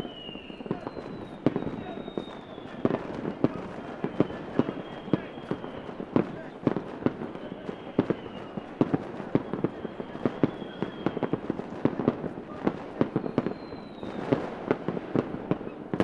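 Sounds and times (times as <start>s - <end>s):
faint high firework whistle: 0.0s - 16.0s
fireworks bangs and pops: 0.0s - 16.0s.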